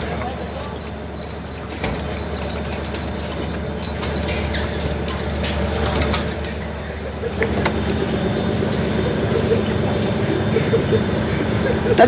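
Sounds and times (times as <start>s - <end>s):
machinery clicks and knocks: 0.0s - 10.0s
low engine drone: 0.0s - 12.0s
faint high squeak: 0.1s - 10.9s.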